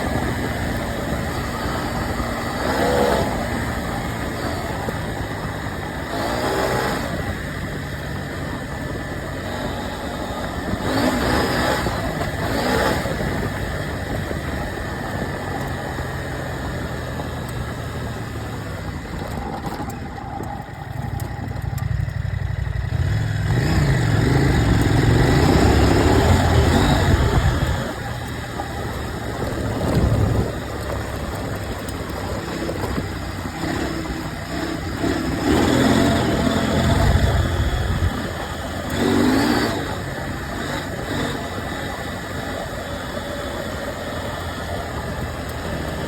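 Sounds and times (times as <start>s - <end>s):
motorcycle engine revving: 0.0s - 46.0s
wind and road noise: 0.0s - 46.0s.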